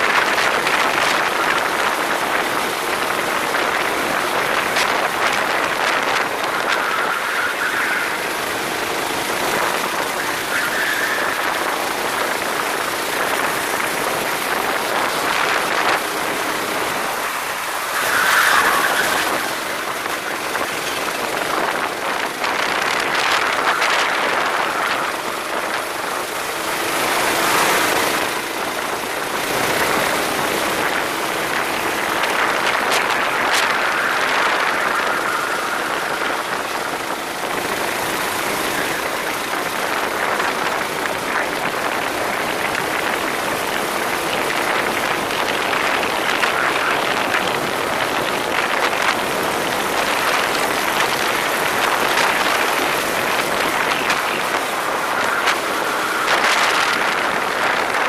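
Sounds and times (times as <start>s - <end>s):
go-kart engine and wind rush: 0.0s - 58.0s.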